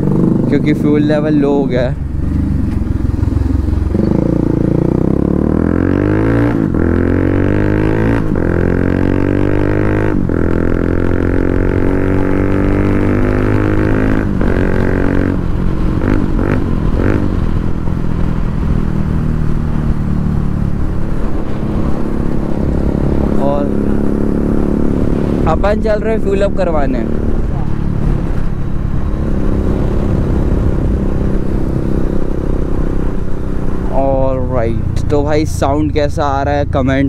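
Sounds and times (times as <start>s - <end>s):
motorcycle accelerating through gears: 0.0s - 37.0s.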